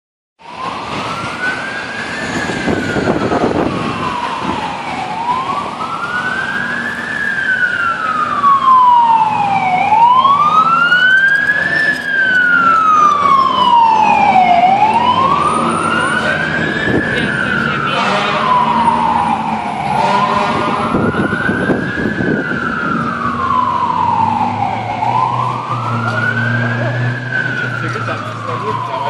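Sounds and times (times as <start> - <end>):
fire truck siren wailing: 0.4 - 29.0
truck engine rumbling: 0.4 - 29.0.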